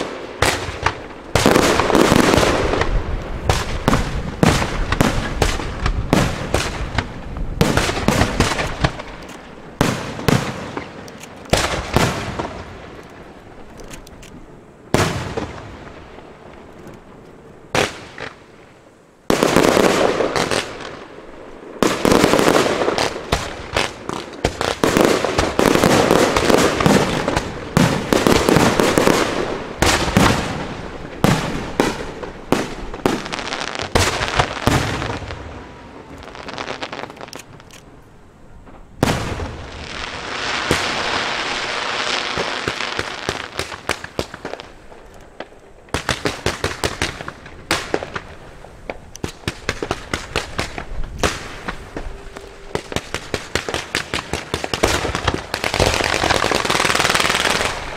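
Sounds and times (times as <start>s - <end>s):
fireworks launching and bursting: 0.0s - 38.0s, 38.7s - 57.9s
steady hiss: 0.0s - 57.9s.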